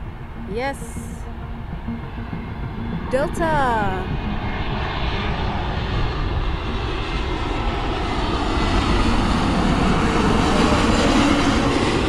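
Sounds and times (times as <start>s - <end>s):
jet airliner rumble: 0.0s - 12.0s.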